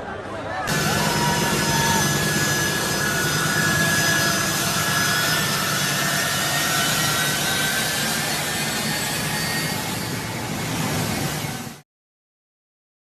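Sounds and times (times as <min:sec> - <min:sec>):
jet engines running: 0:00.7 - 0:11.8.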